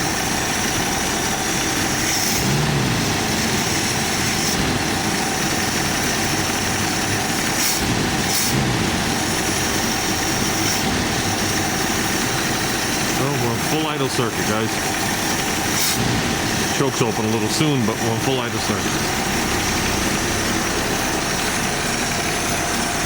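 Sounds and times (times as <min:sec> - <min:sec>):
car engine idling: 0:00.0 - 0:23.0
gravelly air pump whir: 0:00.0 - 0:23.0.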